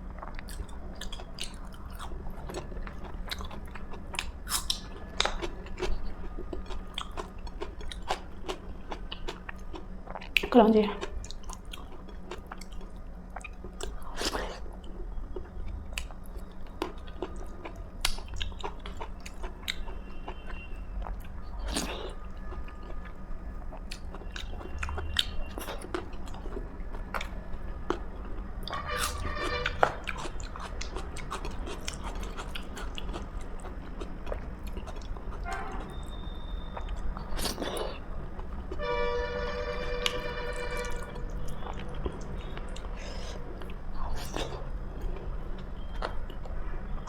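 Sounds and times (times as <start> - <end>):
person chewing food: 0.0 - 38.8, 40.0 - 46.6.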